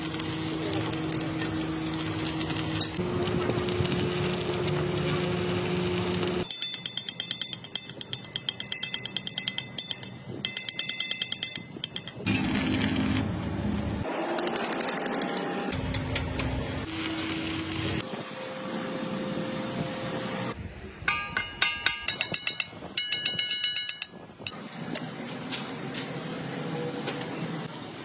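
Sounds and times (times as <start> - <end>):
workshop machine noise: 0.0 - 6.7, 11.4 - 28.0.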